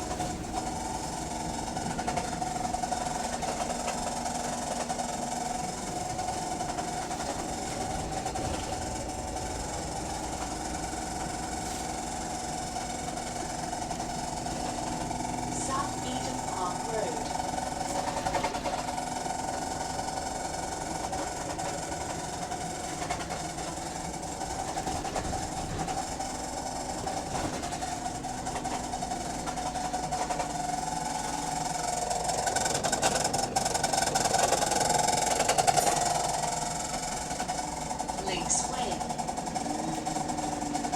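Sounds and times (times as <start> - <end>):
bus engine and gearbox whine: 0.0 - 40.9.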